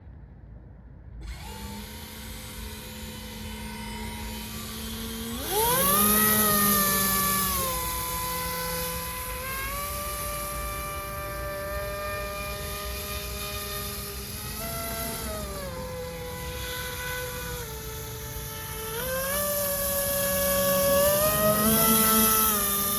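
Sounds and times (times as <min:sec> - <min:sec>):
electric motor whine: 0:01.2 - 0:22.9.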